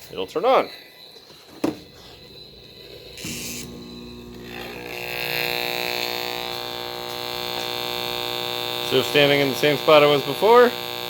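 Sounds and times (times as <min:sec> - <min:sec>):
microwave oven humming: 0:01.6 - 0:11.0.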